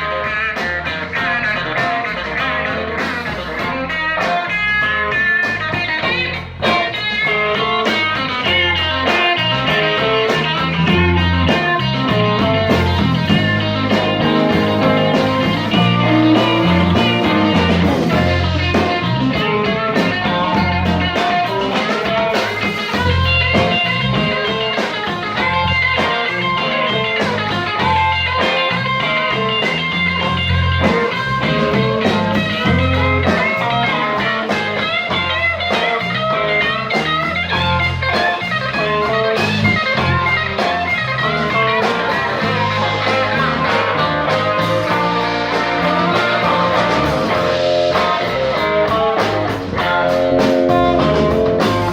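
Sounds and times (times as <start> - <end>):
blues-rock band playing: 0.0 - 51.9
electric guitar: 0.0 - 51.9.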